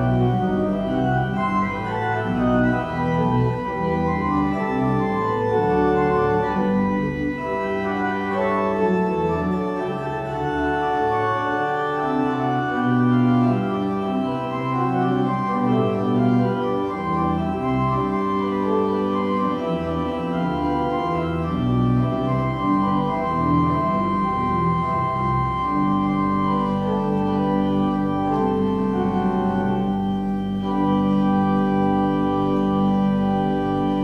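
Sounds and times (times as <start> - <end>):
church organ chords: 0.0 - 34.0.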